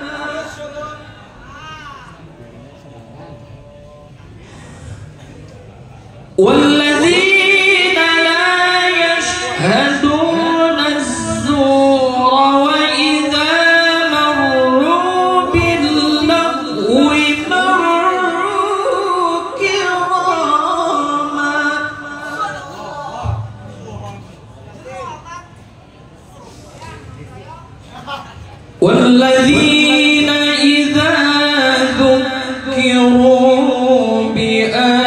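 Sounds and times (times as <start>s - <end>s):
man chanting recitation: 0.0s - 5.2s, 6.0s - 24.3s, 28.8s - 35.0s.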